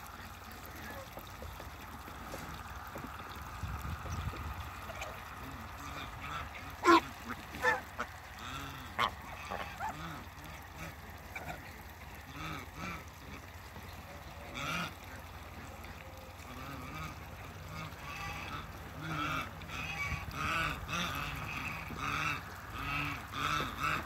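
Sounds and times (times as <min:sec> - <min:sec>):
geese honking: 0:00.1 - 0:24.0.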